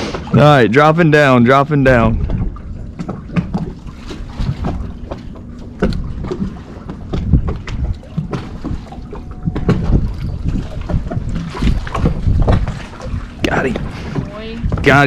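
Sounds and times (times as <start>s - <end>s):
water slapping against boat hull: 1.5s - 15.0s
wind buffeting microphone: 1.8s - 5.1s, 5.7s - 15.0s.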